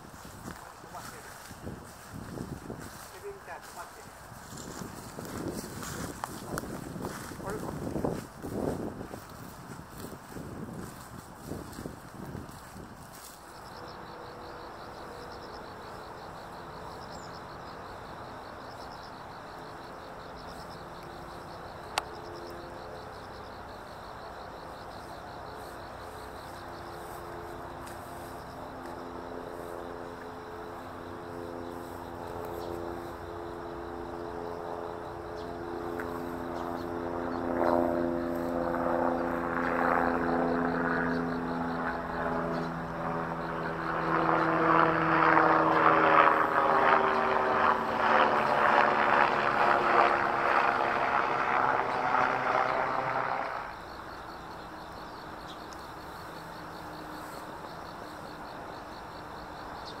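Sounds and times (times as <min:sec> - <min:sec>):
aircraft engine droning: 0:00.0 - 1:00.0.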